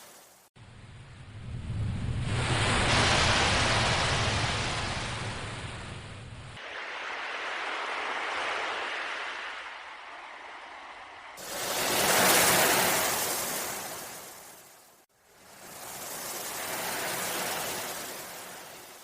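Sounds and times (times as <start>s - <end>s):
ocean waves washing in: 0.0s - 19.0s.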